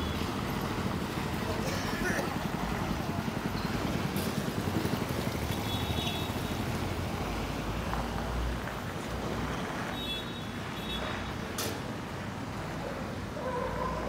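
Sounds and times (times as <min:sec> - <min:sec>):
faint road traffic: 0:00.0 - 0:14.0.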